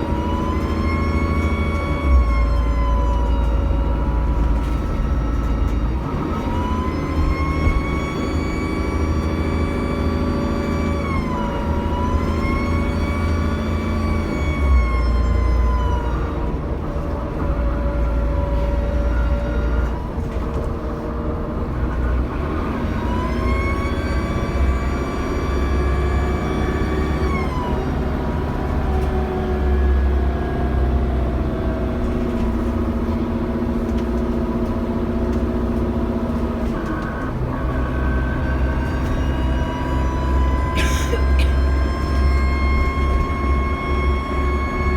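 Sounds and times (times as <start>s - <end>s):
turbocharger whine: 0.0s - 20.6s, 21.7s - 44.9s
diesel engine rumble: 0.0s - 44.9s.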